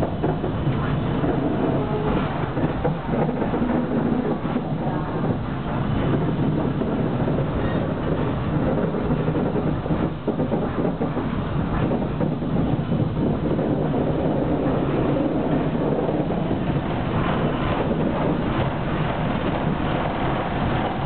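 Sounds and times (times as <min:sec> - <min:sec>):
tram wheels on rails: 0:00.0 - 0:21.0.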